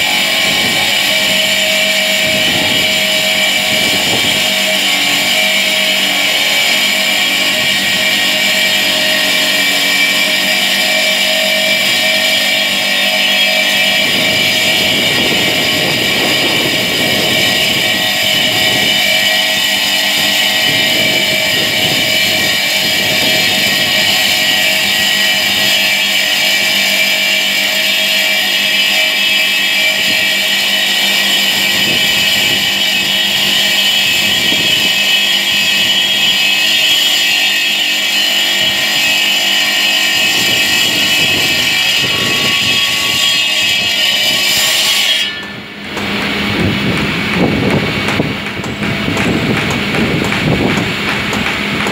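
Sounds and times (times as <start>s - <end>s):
stone cutting saw whining: 0.0s - 51.9s.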